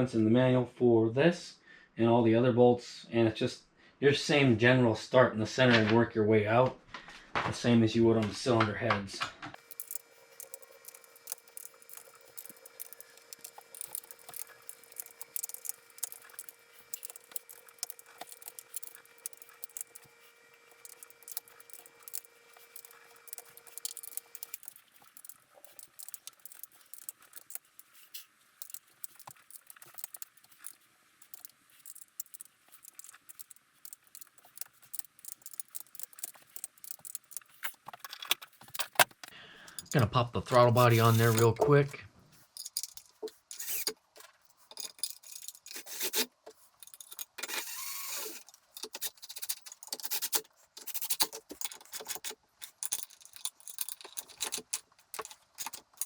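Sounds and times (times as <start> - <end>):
faint steady hum: 6.8 - 56.0
hand tools clicking on bolts: 9.6 - 20.1, 20.7 - 41.8, 42.5 - 56.0.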